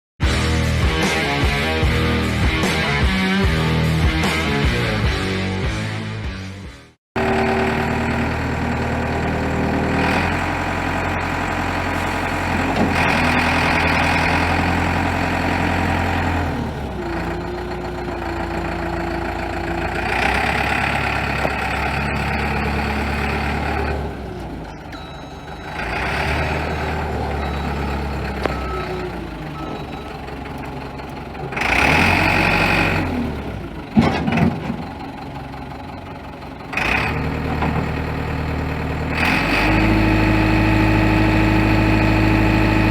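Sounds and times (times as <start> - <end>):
backhoe diesel engine running: 7.2 - 42.9.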